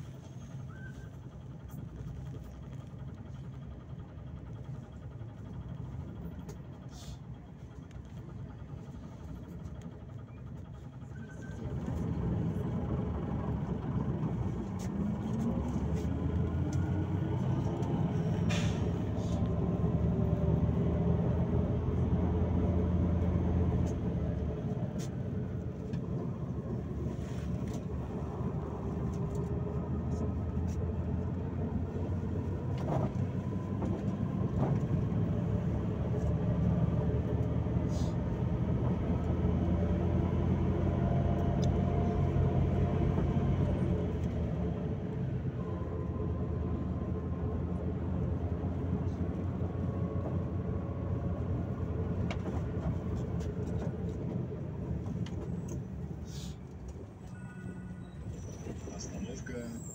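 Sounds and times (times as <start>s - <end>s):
bus engine rumble and whine: 0.0s - 59.9s.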